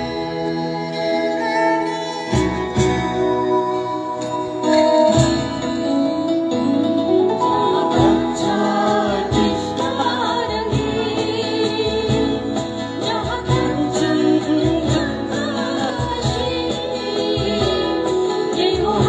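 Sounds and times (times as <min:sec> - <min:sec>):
song with singing and beat: 0:00.0 - 0:19.0.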